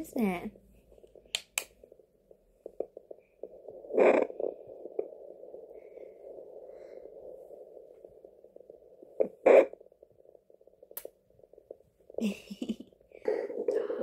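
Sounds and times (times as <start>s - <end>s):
loud crackle: 1.0s - 14.0s.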